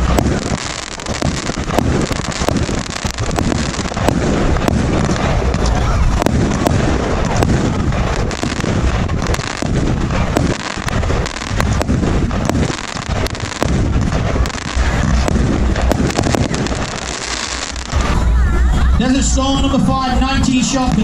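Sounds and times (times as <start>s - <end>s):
firework cake bangs and crackling: 0.0s - 21.0s.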